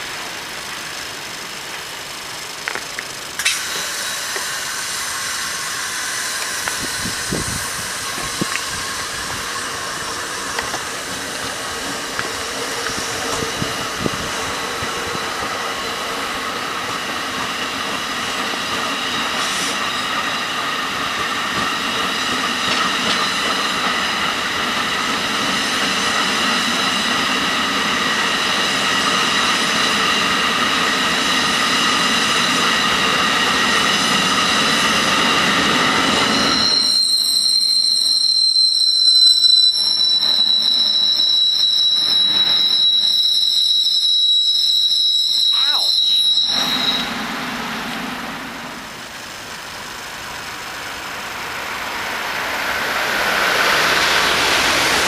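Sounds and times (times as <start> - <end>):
high-pitched train whine: 0.0 - 55.0
train wheel and rail rush: 0.0 - 55.0.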